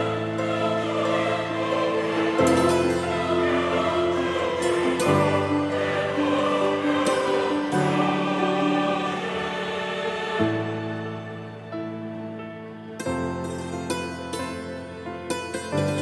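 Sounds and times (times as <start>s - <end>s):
slow choral singing: 0.0s - 16.0s.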